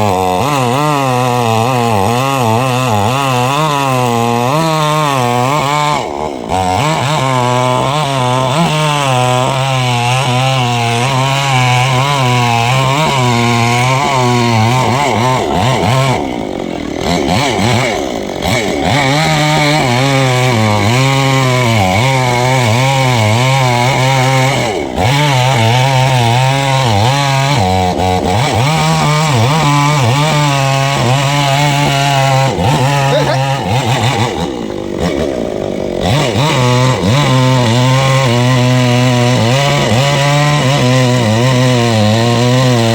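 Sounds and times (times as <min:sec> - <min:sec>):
chainsaw cutting tree: 0:00.0 - 0:42.9.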